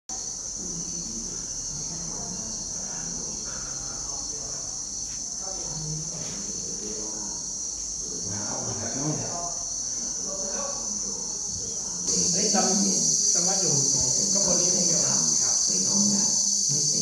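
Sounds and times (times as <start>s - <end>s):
faint voices talking: 0.1s - 17.0s
insect chorus drone: 0.1s - 17.0s.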